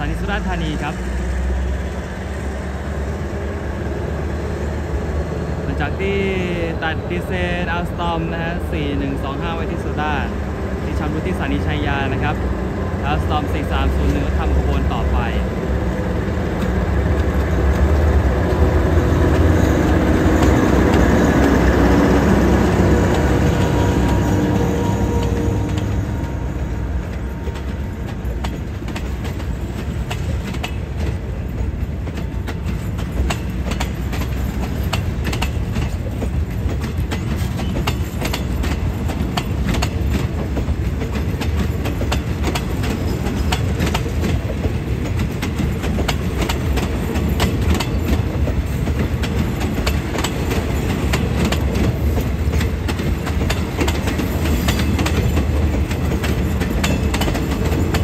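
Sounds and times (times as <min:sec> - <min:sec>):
diesel locomotive engine: 0:00.0 - 0:58.0
wheels clacking over rail joints: 0:06.9 - 0:58.0.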